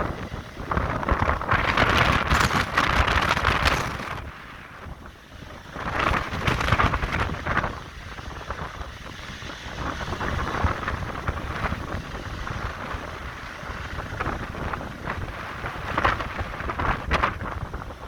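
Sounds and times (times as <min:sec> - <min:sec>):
constant low rumble: 0:00.0 - 0:18.0
wind buffeting microphone: 0:00.0 - 0:18.0.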